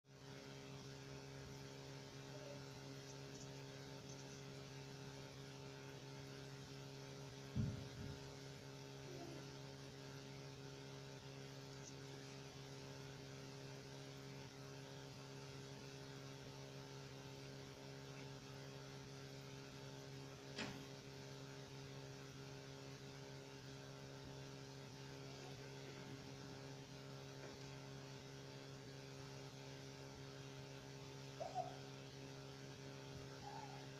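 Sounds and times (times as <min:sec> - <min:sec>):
faint low hum: 0:00.1 - 0:33.9.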